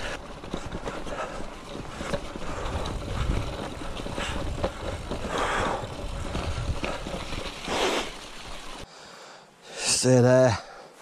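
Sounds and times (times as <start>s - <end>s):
bike tyres rumbling on grass: 0.0s - 8.8s
bike rattling over ground: 0.0s - 8.9s.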